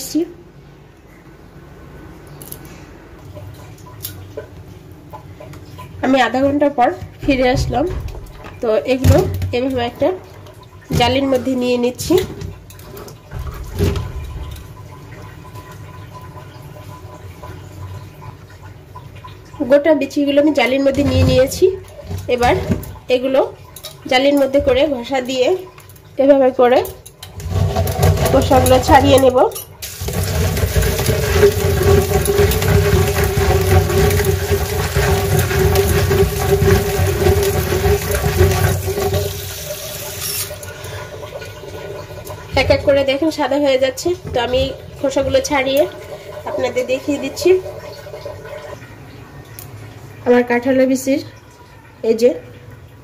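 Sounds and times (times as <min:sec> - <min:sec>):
water dripping and draining: 0:02.2 - 0:53.0.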